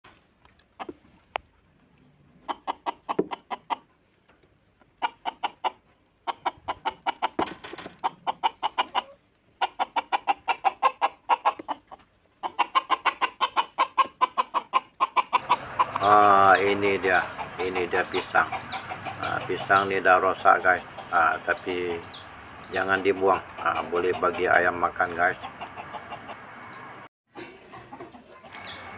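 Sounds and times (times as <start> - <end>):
chickens clucking: 0.2 - 28.9.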